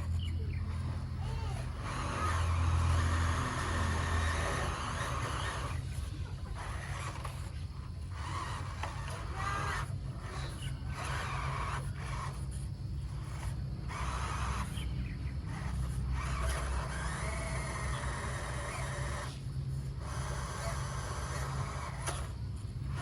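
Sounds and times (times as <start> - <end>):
electric toy car motors whining: 0.0 - 23.0.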